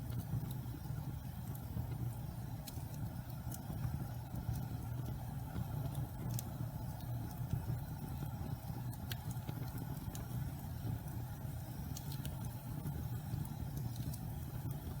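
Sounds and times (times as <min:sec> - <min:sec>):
fire crackles and pops: 0:00.0 - 0:15.0
fire rumbling: 0:00.0 - 0:15.0.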